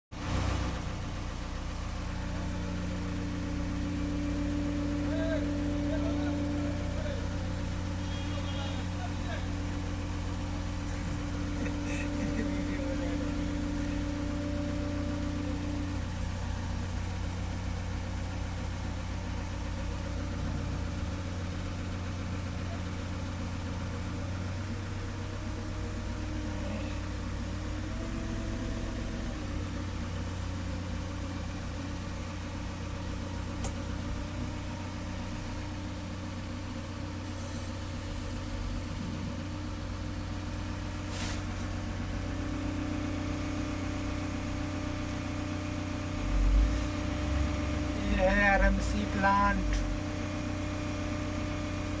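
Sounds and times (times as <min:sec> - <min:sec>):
diesel engine running: 0:00.1 - 0:52.0.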